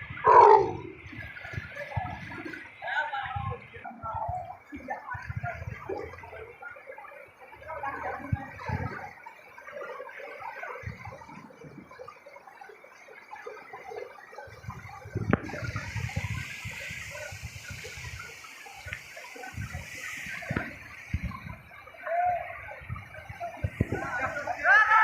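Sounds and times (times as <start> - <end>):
water flowing and splashing: 0.0 - 25.0.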